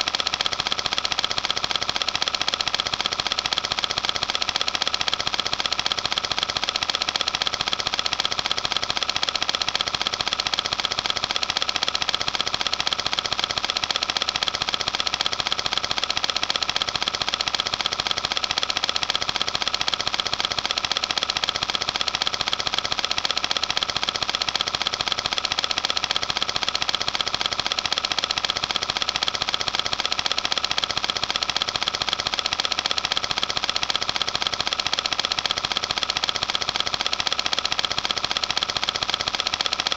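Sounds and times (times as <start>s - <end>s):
film projector clatter: 0.0s - 39.9s.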